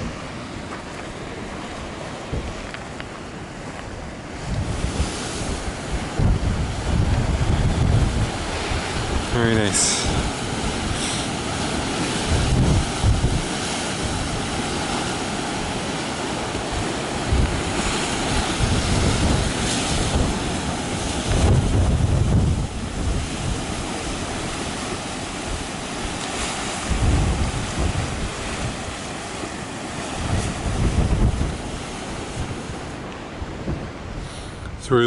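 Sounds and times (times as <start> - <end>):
ocean surf breaking on rocks: 0.0 - 35.0
wind buffeting microphone: 0.0 - 35.0.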